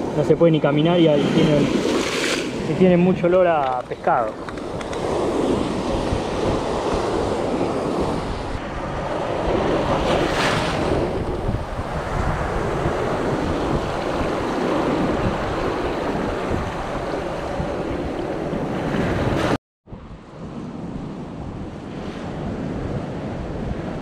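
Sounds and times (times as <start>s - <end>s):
sea surf washing on sand: 0.0s - 19.6s
distant surf: 0.0s - 24.0s.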